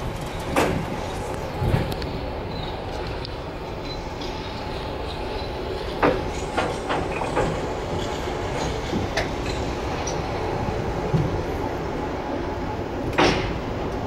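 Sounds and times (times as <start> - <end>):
train rumbling over track: 0.0 - 14.0
wheels clanking over rail joints: 0.0 - 14.0.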